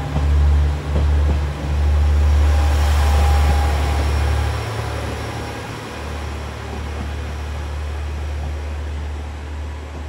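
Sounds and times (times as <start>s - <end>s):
train engine and wheel rumble: 0.0s - 10.0s.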